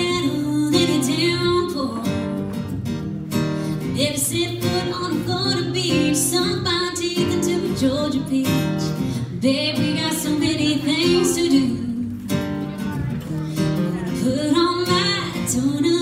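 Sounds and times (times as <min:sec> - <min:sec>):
woman singing: 0:00.0 - 0:02.7, 0:03.7 - 0:16.0
strummed acoustic guitar: 0:00.0 - 0:16.0.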